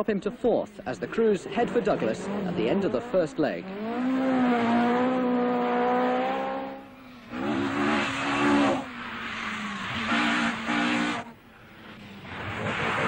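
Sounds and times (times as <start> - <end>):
rally car engine high revs: 0.8 - 11.4.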